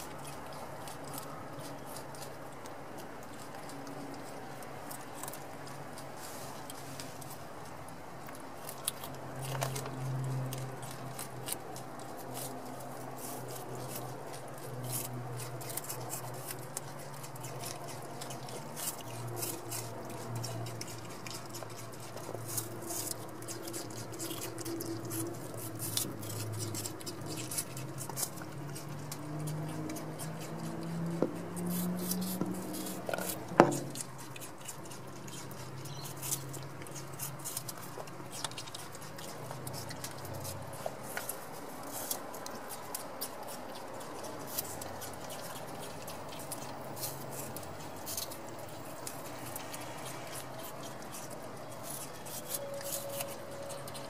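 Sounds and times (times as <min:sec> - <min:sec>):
animals chewing and munching: 0:00.0 - 0:54.0.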